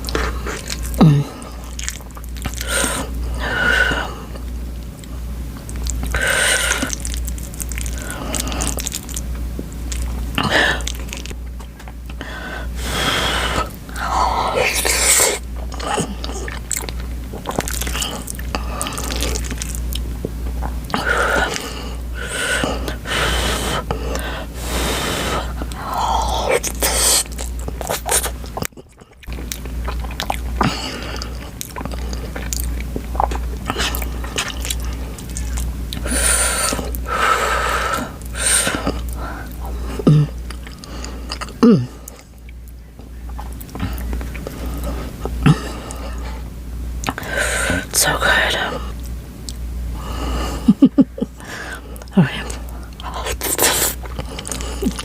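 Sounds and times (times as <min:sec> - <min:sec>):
wet chewing mouth sounds: 0:00.0 - 0:49.7, 0:51.3 - 0:55.0.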